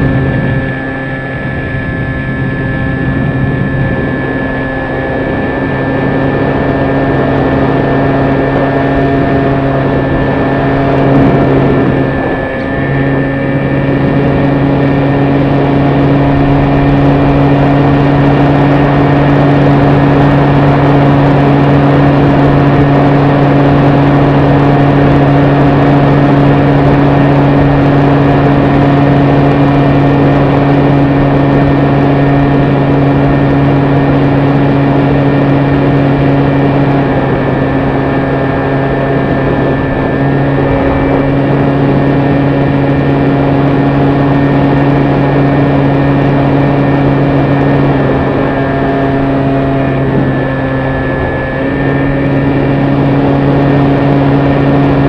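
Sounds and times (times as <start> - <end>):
electric motor whining: 0.0 - 55.0
wind on microphone: 0.0 - 55.0.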